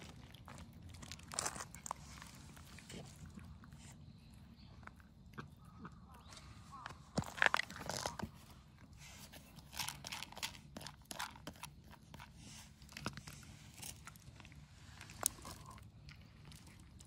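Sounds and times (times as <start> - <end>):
cats crunching dry kibble: 0.0 - 17.0.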